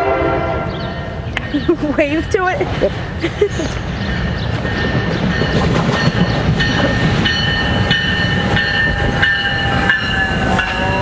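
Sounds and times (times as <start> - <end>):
high ringing of wheels on rails: 0.0 - 11.0
train rumbling past: 0.0 - 11.0
wheels clicking over rail joints: 1.2 - 11.0.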